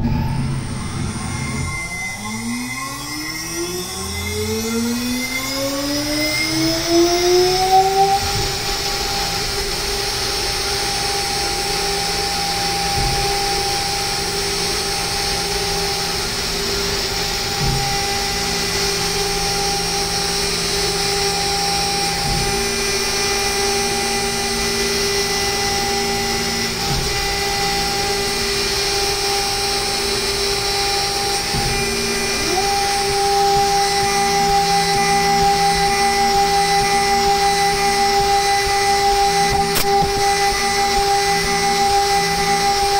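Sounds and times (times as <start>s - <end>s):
milling spindle high whine: 0.0s - 42.9s.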